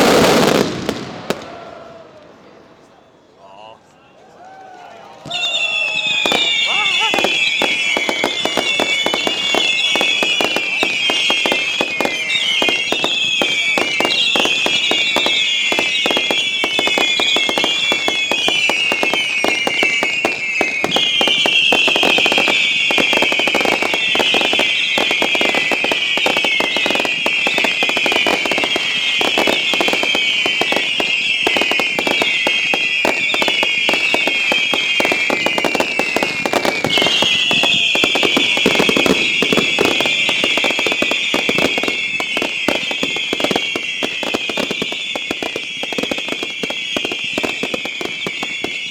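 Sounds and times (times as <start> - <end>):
fireworks crackling and popping: 0.0 - 2.6, 5.2 - 48.9
whistling fireworks: 0.0 - 3.7, 5.2 - 48.9.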